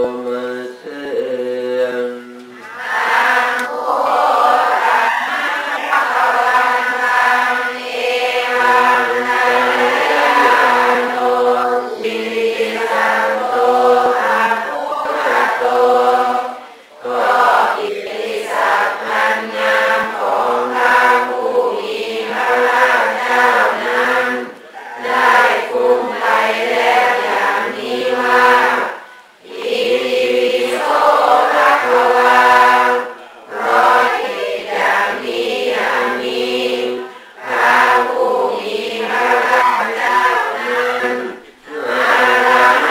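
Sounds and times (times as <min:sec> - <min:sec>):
voices chanting in unison: 0:00.0 - 0:42.9.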